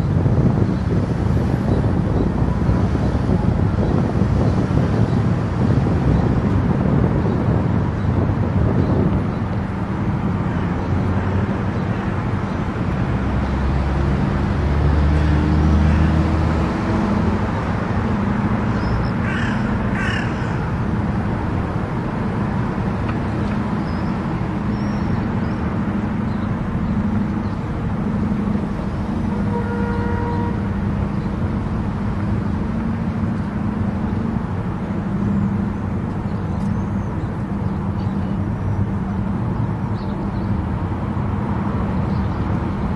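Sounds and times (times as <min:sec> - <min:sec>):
car tyre and engine noise: 0:00.0 - 0:42.9.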